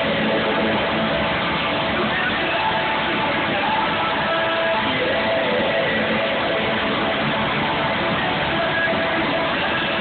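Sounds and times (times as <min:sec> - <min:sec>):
loud live concert music: 0:00.0 - 0:10.0.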